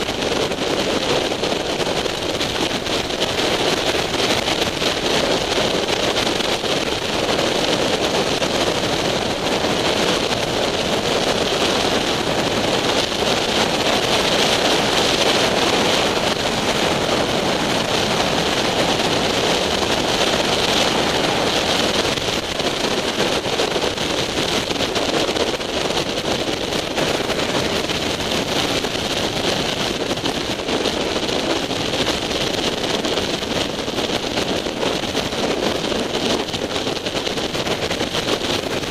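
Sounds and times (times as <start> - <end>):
road noise: 0.0 - 38.9
wind rush over microphone: 0.0 - 38.9.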